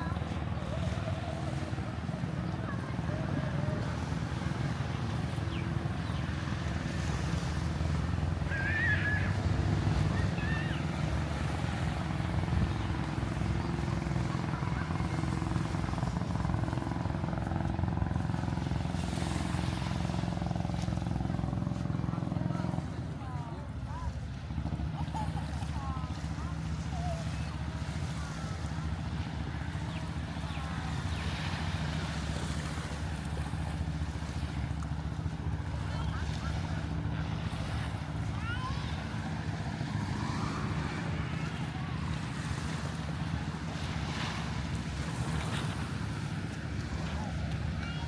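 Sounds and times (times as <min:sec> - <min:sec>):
motor engine running: 0:00.0 - 0:48.0.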